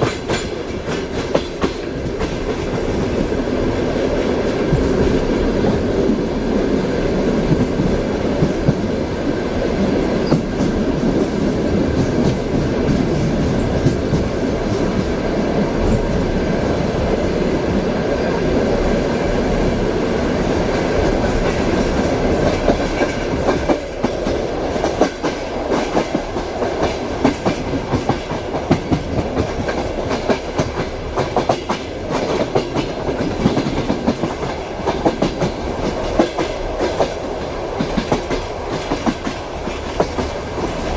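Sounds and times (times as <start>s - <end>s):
train wheels clattering over rails: 0.0s - 18.2s, 18.8s - 40.9s.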